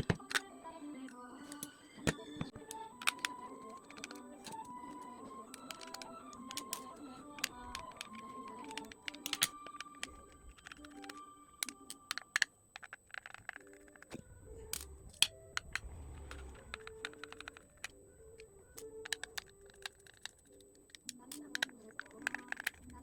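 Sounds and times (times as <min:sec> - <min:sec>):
plastic and metal parts clicking: 0:00.0 - 0:23.0
soft background music: 0:00.0 - 0:23.0.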